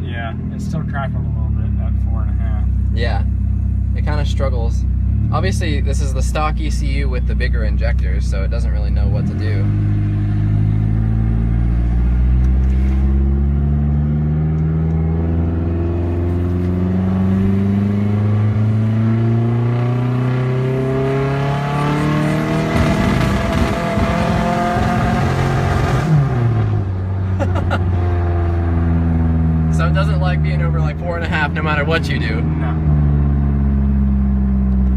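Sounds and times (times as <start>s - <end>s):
turbocharged car engine revving: 0.0s - 34.9s.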